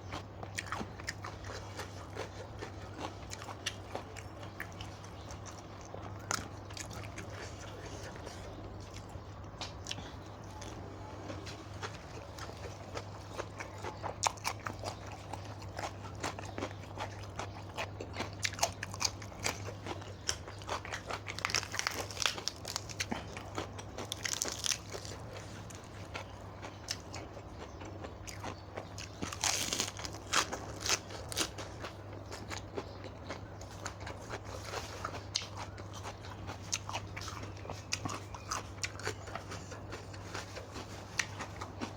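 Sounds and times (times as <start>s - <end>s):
crunchy chewing: 0.0s - 41.9s.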